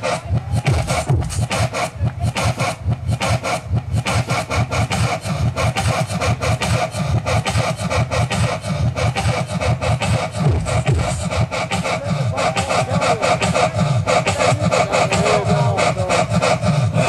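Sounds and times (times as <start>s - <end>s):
distorted electronic dance music: 0.0s - 17.0s.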